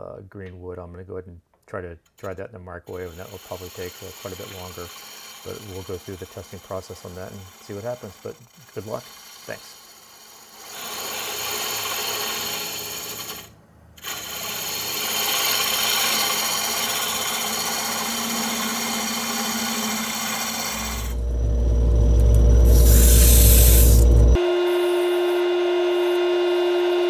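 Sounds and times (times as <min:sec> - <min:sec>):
turning tool cutting wood: 0:02.1 - 0:27.0
sandpaper rubbing spinning wood: 0:02.9 - 0:21.2, 0:22.6 - 0:26.2
wood lathe humming: 0:02.9 - 0:27.0.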